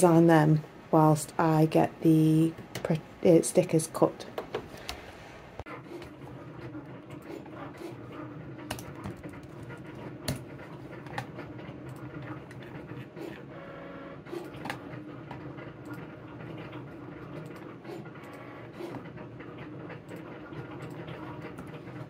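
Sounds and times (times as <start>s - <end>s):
machine motor hum: 4.2s - 22.0s.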